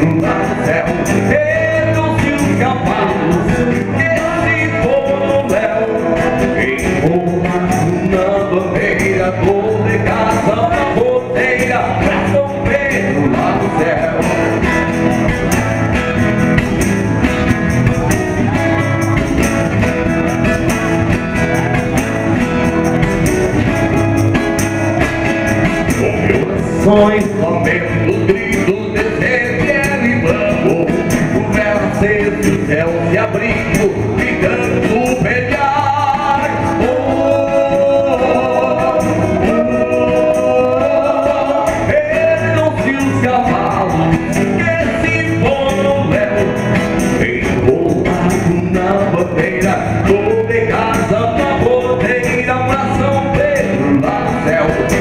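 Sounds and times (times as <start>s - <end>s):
men singing: 0.0s - 55.0s
strummed nylon-string guitar: 0.0s - 55.0s.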